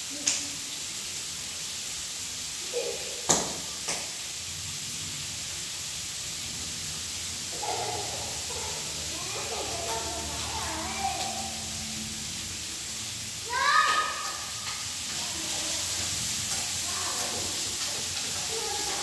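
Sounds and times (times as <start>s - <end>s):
rain hissing: 0.0s - 19.0s.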